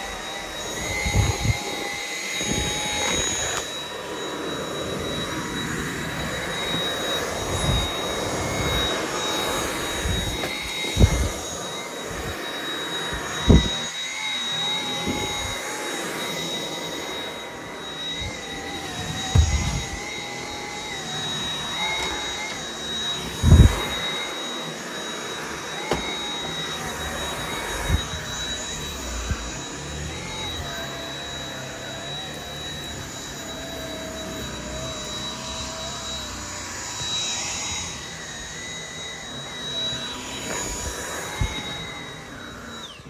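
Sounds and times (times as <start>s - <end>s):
stick vacuum motor whine: 0.0s - 43.0s.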